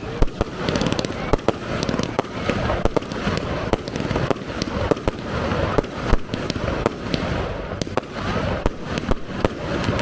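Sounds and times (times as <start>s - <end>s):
fireworks bangs: 0.0s - 10.0s
fireworks crackling and hissing: 0.0s - 10.0s.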